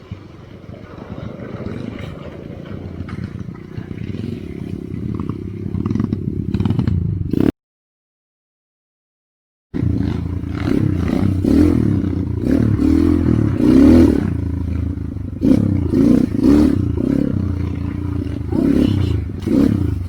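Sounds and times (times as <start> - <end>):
motorcycle engine revving: 0.0 - 7.5, 9.8 - 20.0.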